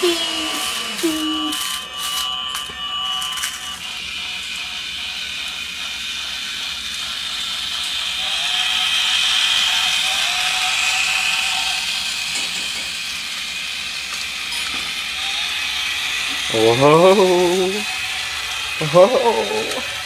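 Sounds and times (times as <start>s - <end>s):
toy train hissing on track: 0.0s - 20.0s.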